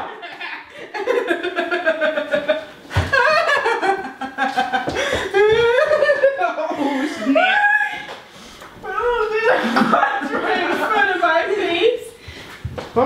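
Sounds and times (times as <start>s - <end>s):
people laughing: 0.0s - 8.0s, 8.9s - 11.9s.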